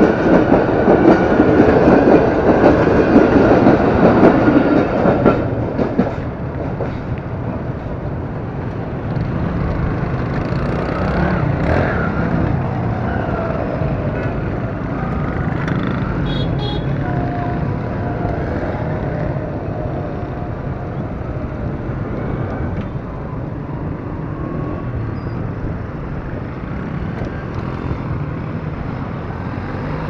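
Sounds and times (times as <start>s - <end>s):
traffic: 0.0s - 30.0s.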